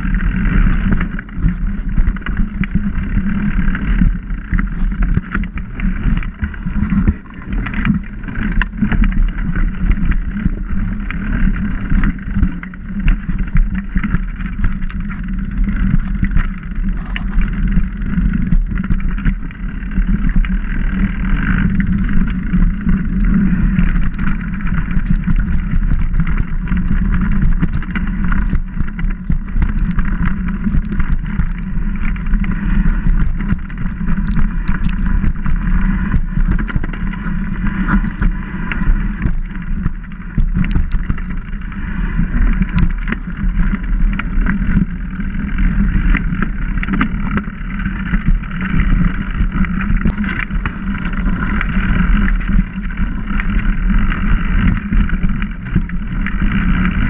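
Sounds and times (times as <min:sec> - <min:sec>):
bike clicks and rattles: 0:00.0 - 0:57.0
bike tyre rumble: 0:00.0 - 0:57.0
wind on microphone: 0:00.0 - 0:57.0.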